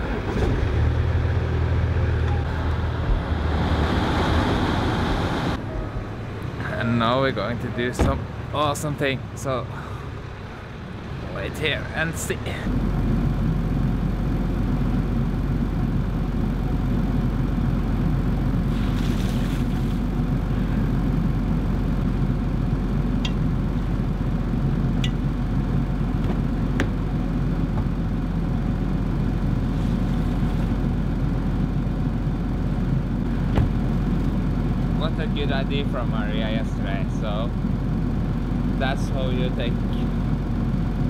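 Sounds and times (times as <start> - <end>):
car engine idling: 5.5 - 41.0.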